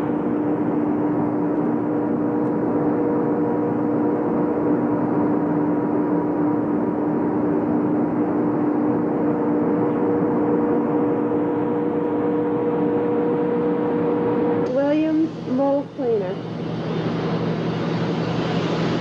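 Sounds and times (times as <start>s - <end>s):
factory machinery drone: 0.0s - 19.0s
machinery hum tones: 0.0s - 19.0s.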